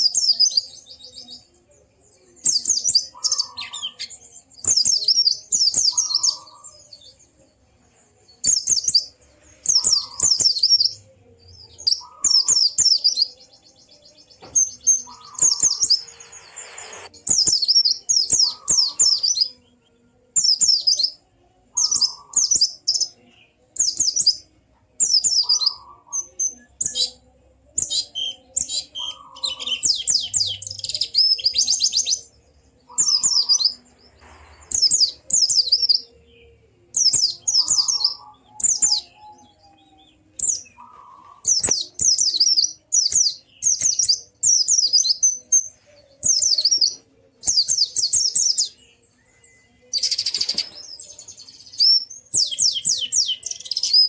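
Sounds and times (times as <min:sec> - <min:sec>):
bird twittering with trills: 0:02.4 - 0:07.3, 0:08.4 - 0:19.5, 0:20.4 - 0:23.2, 0:23.8 - 0:36.1, 0:36.9 - 0:54.0.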